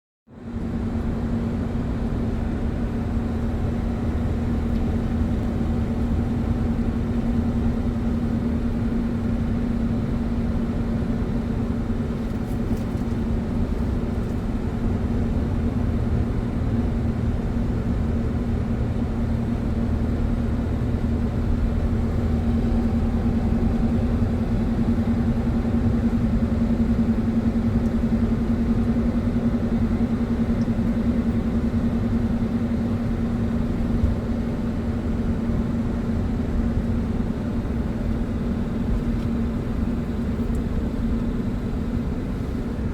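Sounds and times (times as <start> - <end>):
car road noise drone: 0.3 - 42.9.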